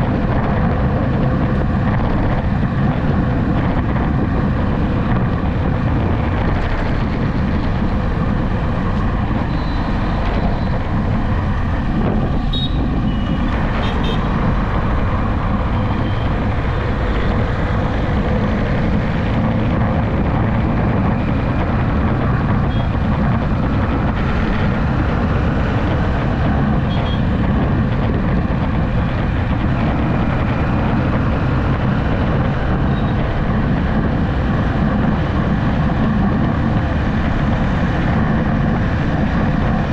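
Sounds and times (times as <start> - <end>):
engine hum: 0.0 - 39.9
road and wind noise: 0.0 - 39.9.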